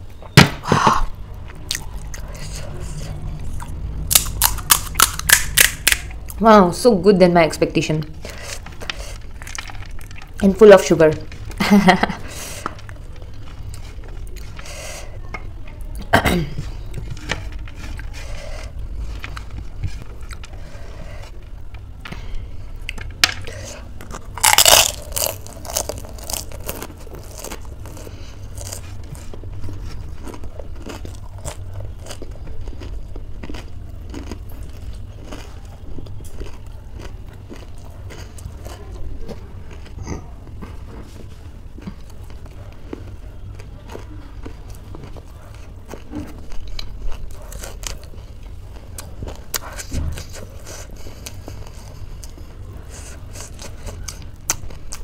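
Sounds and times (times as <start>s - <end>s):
steady low hum: 0.0s - 55.0s
chewing and crunching crisp shell: 1.3s - 6.4s, 8.1s - 16.0s, 16.8s - 55.0s.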